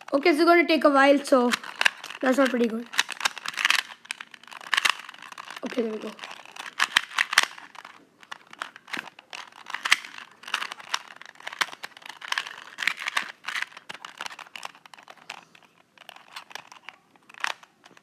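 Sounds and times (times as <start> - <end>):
puzzle cube clicking: 1.1 - 18.0.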